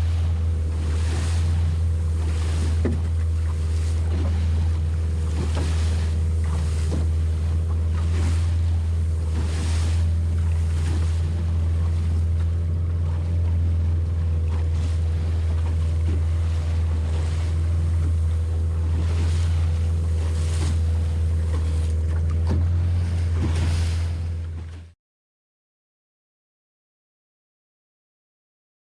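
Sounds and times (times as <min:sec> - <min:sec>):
motorboat engine drone: 0:00.0 - 0:25.0
water splashing against hull: 0:00.0 - 0:25.0.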